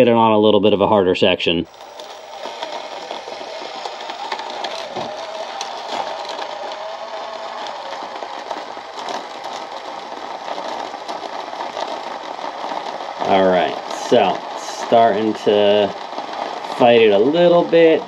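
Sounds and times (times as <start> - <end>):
small electric motor whining: 1.7 - 18.0.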